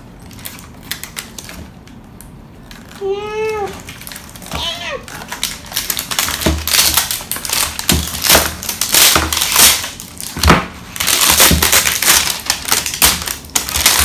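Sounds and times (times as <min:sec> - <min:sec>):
plastic wrap crinkling: 0:00.0 - 0:14.0
cardboard tearing: 0:02.7 - 0:14.0.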